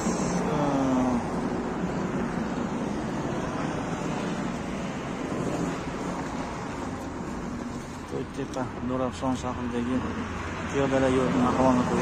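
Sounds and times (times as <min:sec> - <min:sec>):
cars on the road: 0:00.0 - 0:12.0.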